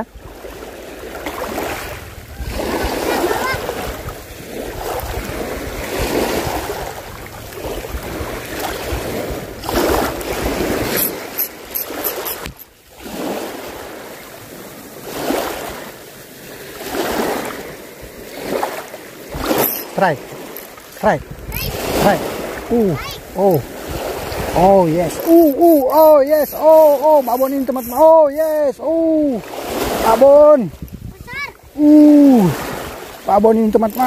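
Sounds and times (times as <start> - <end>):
wind rumbling on microphone: 0.0 - 15.9, 16.8 - 34.0
small waves washing on shore: 0.0 - 34.0.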